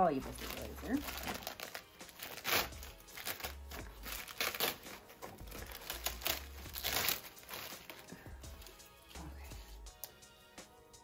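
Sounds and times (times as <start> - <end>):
plastic film crinkling and rustling: 0.0 - 8.8.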